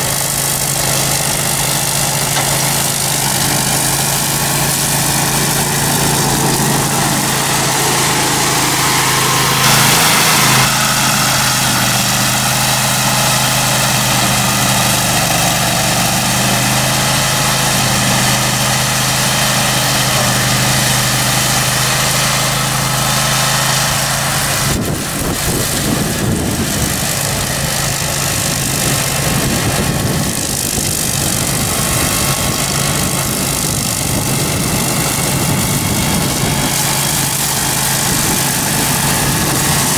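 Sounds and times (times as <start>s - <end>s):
ride-on mower engine running: 0.0s - 39.9s.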